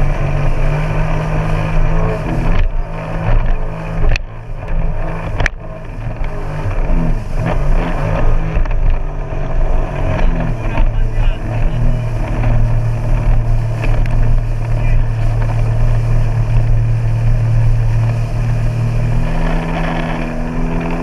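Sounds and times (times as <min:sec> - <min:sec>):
jet ski engine running: 0:00.0 - 0:21.0
water and wind noise: 0:00.0 - 0:21.0.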